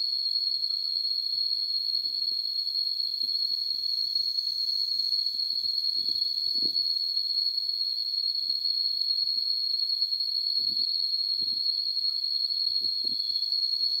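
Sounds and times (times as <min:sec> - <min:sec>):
high-pitched insect drone: 0:00.1 - 0:14.0.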